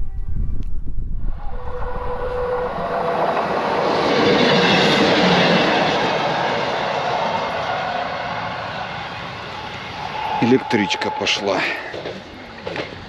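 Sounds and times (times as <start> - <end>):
electric train passing: 1.1 - 13.0.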